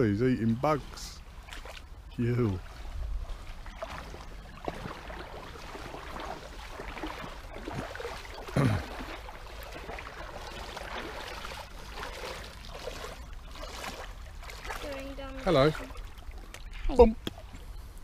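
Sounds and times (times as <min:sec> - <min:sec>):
stream water wash: 0:00.0 - 0:17.8
water splashing from wading: 0:00.5 - 0:17.7.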